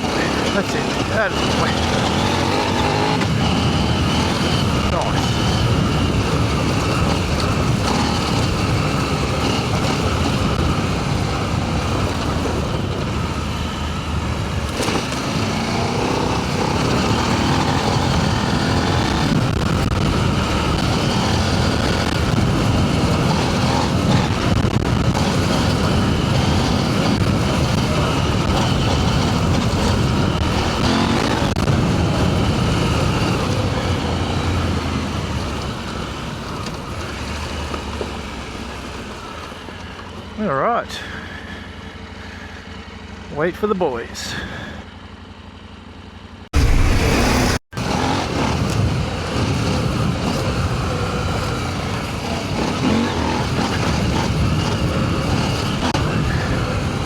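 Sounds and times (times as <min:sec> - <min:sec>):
wind noise: 0:00.0 - 0:35.3, 0:46.6 - 0:57.0
motorcycle engine revving: 0:00.0 - 0:43.4, 0:44.2 - 0:57.0.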